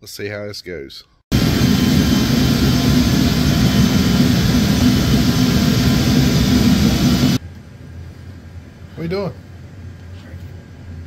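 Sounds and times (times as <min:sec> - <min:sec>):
loud mechanical noise with hum: 0:01.3 - 0:11.0.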